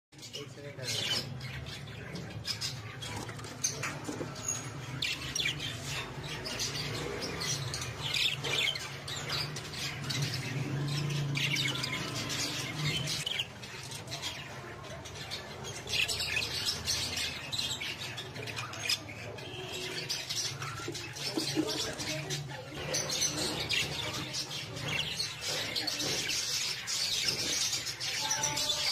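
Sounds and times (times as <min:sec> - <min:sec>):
budgerigars chattering and chirping: 0:00.2 - 0:28.9.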